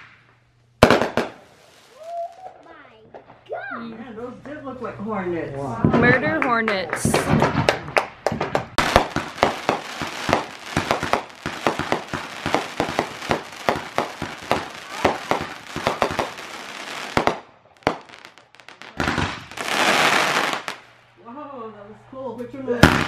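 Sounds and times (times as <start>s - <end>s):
fireworks crackling pops: 0.0s - 3.5s, 5.8s - 21.0s, 22.8s - 23.0s.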